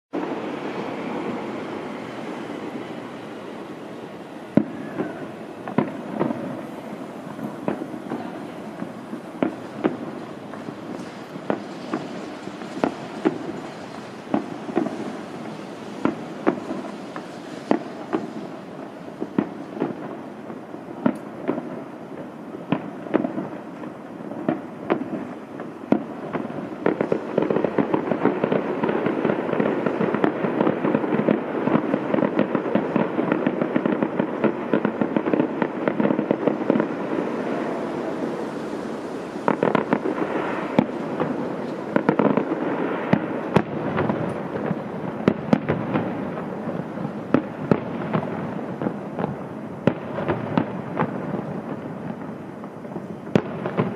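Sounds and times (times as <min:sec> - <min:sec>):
crackling firework barrage: 0:00.1 - 0:53.9
firework shells bursting: 0:00.2 - 0:21.7, 0:22.7 - 0:53.9.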